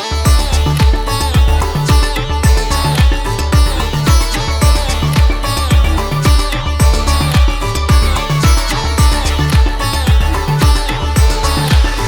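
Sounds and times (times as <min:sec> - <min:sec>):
electronic dance music: 0:00.0 - 0:12.0
plucked string melody: 0:00.0 - 0:12.0
sustained synth notes: 0:00.0 - 0:12.0
kick drum: 0:00.3 - 0:12.0.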